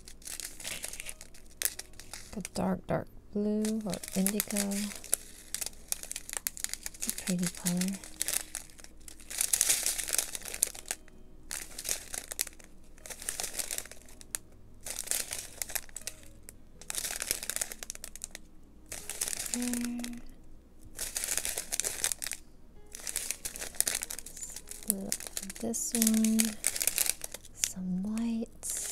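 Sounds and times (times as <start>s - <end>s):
plastic packets crinkling: 0.0s - 2.7s, 3.4s - 28.9s.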